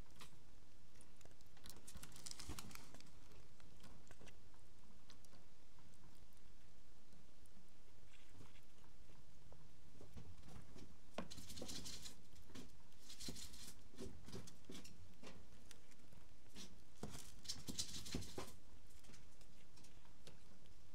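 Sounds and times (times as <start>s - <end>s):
small animal rustling and clicking: 0.0s - 20.9s.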